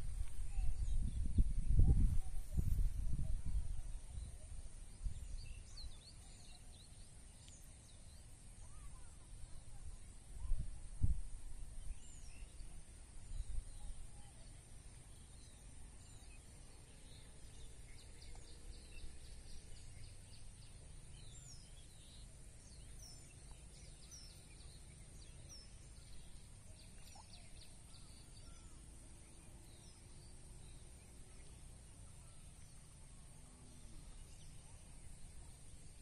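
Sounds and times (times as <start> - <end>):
small birds chirping: 0.0 - 10.9, 11.5 - 36.0
steady high-pitched hiss: 0.0 - 36.0.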